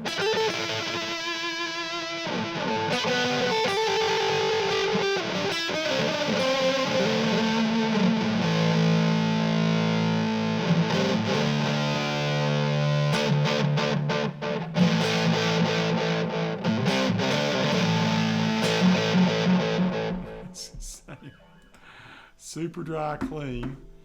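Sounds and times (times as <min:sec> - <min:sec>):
distorted electric guitar with delay: 0:00.0 - 0:21.6.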